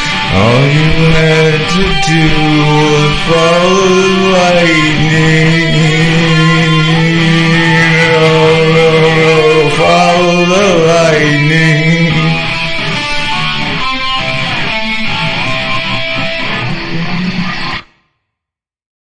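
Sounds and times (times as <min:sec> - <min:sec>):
rock song with electric guitar: 0:00.0 - 0:18.0.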